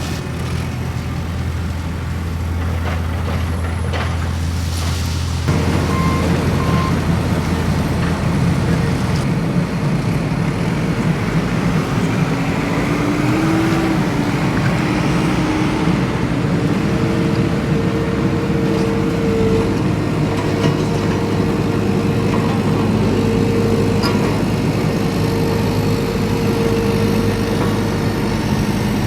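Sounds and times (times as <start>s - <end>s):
off-road vehicle engine rumble: 0.0s - 29.0s.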